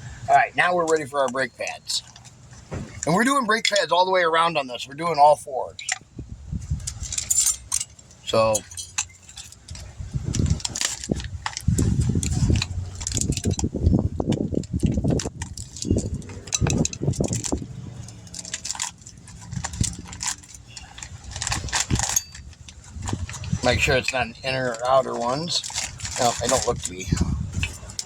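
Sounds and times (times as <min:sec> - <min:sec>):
brake pads clinking and rattling: 0:00.4 - 0:28.0.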